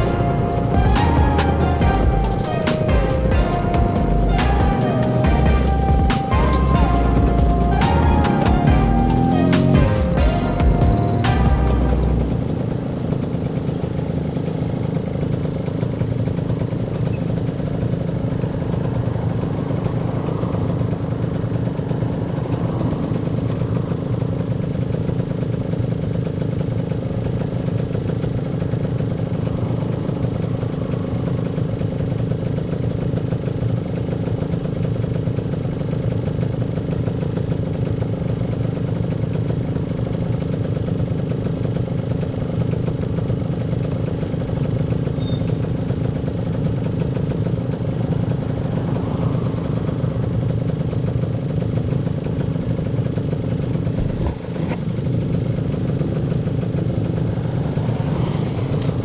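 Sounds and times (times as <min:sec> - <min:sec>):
constant rushing noise: 0:00.0 - 0:35.4, 0:36.0 - 0:59.0
motorcycle engine running: 0:00.0 - 0:59.0.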